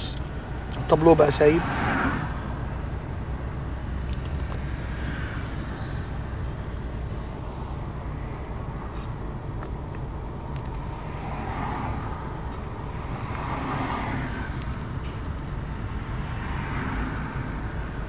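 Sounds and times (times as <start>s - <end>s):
low background rumble: 2.3s - 18.0s.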